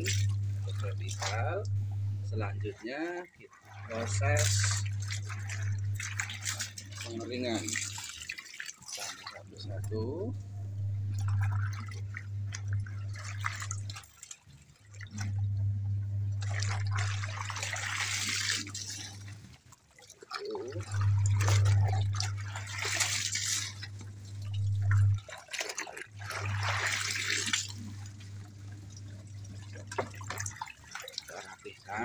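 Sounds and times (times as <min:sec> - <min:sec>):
steady low hum: 0:00.0 - 0:08.3, 0:09.1 - 0:14.0, 0:14.8 - 0:19.7, 0:20.6 - 0:32.0
water splashing and dripping: 0:00.0 - 0:10.4, 0:11.1 - 0:15.7, 0:16.3 - 0:32.0
fabric wrung in water: 0:00.0 - 0:32.0.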